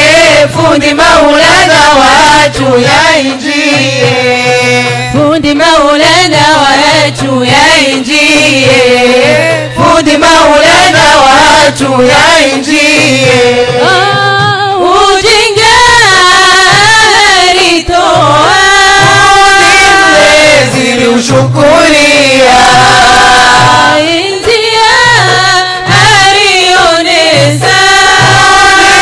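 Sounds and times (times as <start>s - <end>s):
women singing a chant: 0.0s - 29.0s.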